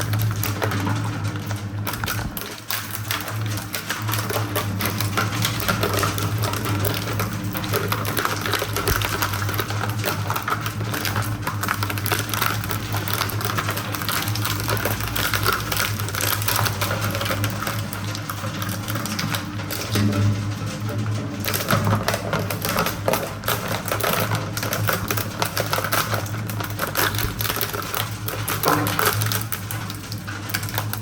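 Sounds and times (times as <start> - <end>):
industrial shredder humming: 0.0 - 31.0.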